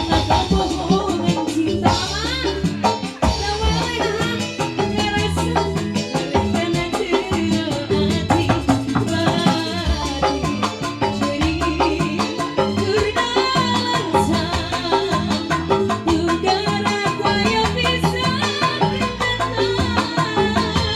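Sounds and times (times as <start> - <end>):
busy percussion strikes: 0.0 - 20.9
live band music: 0.0 - 20.9
steady bass line: 0.0 - 20.9.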